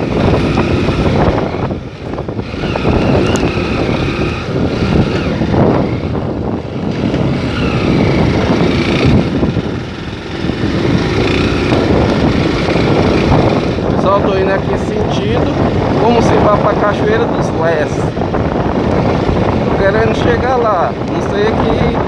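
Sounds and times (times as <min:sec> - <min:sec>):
vehicle engine: 0:00.0 - 0:22.0
wind noise on microphone: 0:00.0 - 0:22.0.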